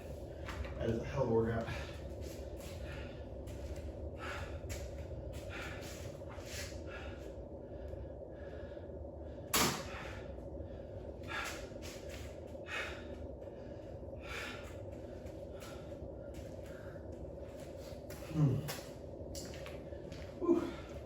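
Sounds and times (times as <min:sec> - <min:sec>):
steady low hum: 0:00.0 - 0:21.0
person breathing hard: 0:01.6 - 0:18.9, 0:19.8 - 0:21.0.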